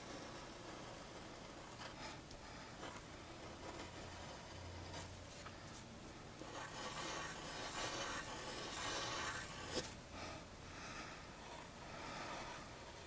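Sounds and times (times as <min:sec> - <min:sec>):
pencil scratching on paper: 0:00.0 - 0:05.5, 0:06.4 - 0:10.0, 0:11.4 - 0:13.0.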